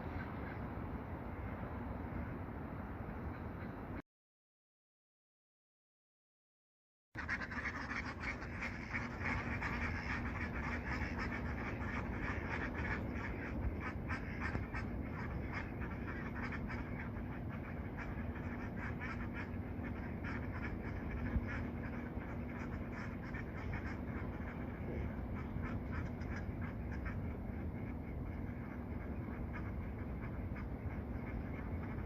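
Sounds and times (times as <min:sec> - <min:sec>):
water birds calling: 0:00.0 - 0:04.0, 0:07.2 - 0:32.0.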